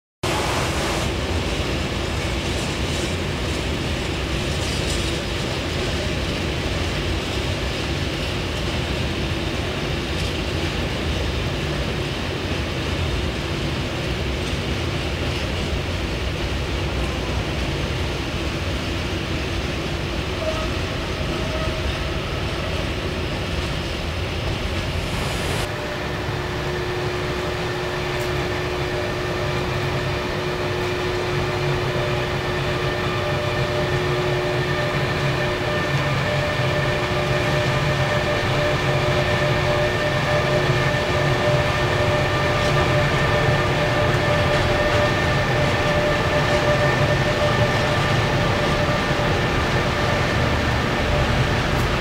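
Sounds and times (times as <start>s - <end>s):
electric locomotive passing: 0.2s - 52.0s
train wheels rumbling on rails: 0.2s - 52.0s.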